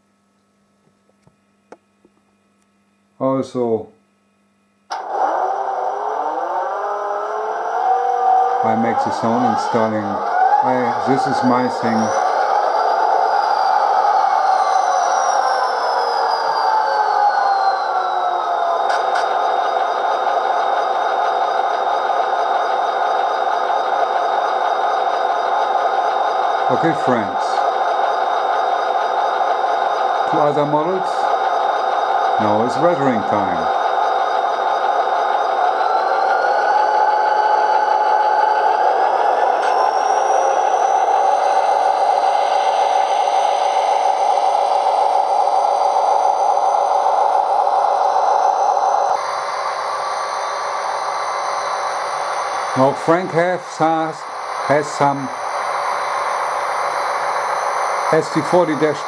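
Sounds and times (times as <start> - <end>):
airbrush compressor humming: 4.9 - 59.0
diesel engine sound from tiny speaker: 4.9 - 59.0.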